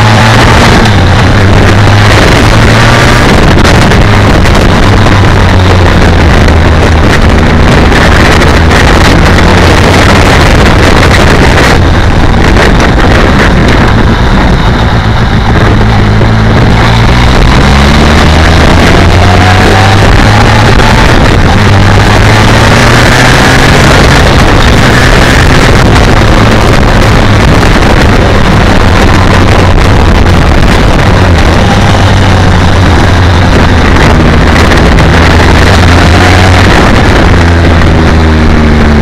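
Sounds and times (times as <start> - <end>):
motorcycle engine running: 0.0 - 39.0
rushing wind: 0.0 - 39.0.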